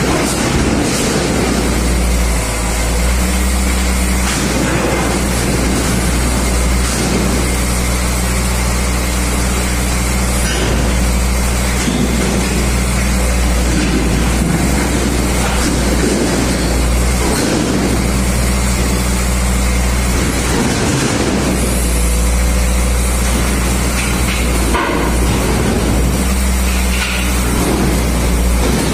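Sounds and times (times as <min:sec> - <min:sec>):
diesel truck engine running: 0:00.0 - 0:28.9.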